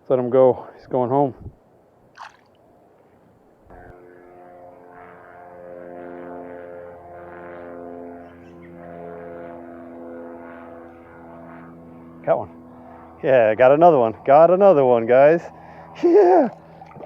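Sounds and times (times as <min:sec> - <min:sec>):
propeller airplane engine drone: 0:01.6 - 0:17.0.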